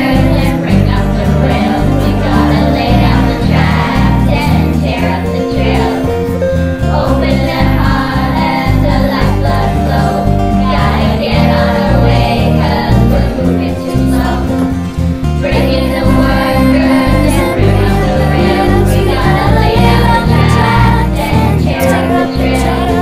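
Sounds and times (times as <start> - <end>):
children's choir singing: 0.0 - 23.0
instrumental backing: 0.0 - 23.0.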